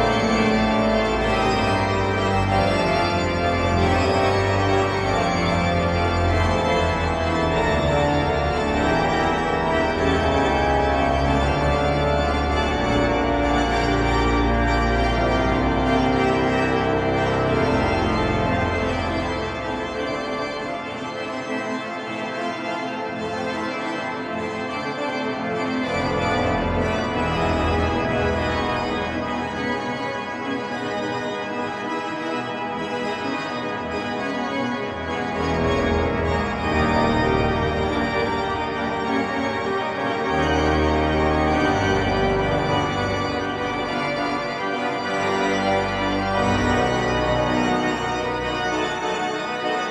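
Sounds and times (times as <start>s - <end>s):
pipe organ playing chords: 0.0s - 49.9s.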